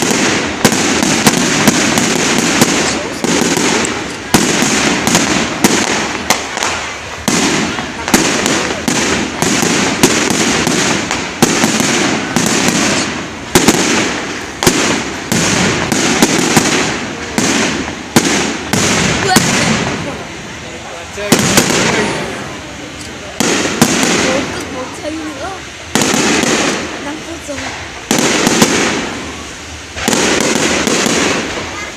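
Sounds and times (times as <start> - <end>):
fireworks bangs: 0.0 - 31.9.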